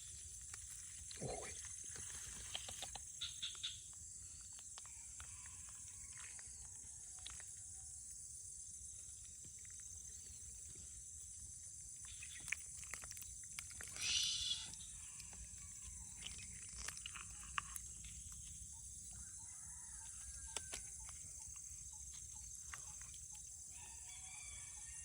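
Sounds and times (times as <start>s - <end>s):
insect chorus chirring: 0.0s - 25.0s.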